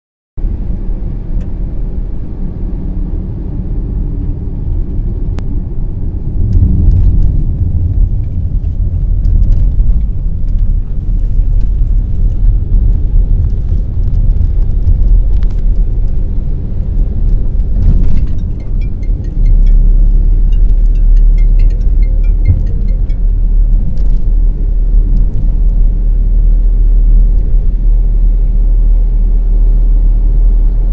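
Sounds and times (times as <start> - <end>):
car driving rumble: 0.4 - 30.9.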